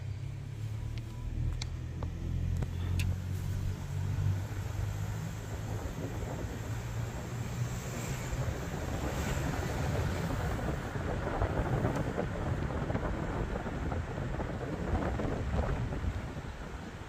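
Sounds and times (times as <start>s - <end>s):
car rumbling slowly: 0.0s - 17.0s
wind buffeting microphone: 3.2s - 17.0s.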